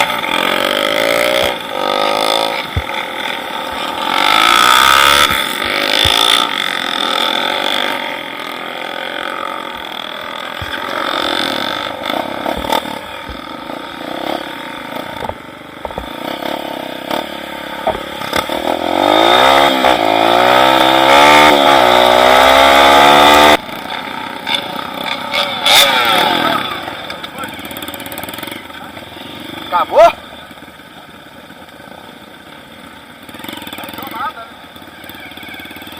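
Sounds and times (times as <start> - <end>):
small motorcycle engine revving: 0.0 - 30.7, 33.1 - 35.9.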